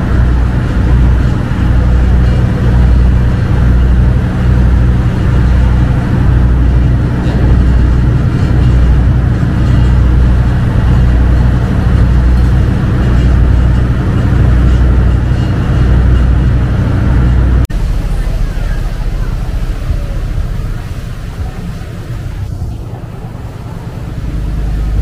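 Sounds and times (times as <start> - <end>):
boat engine low drone: 0.0 - 25.0.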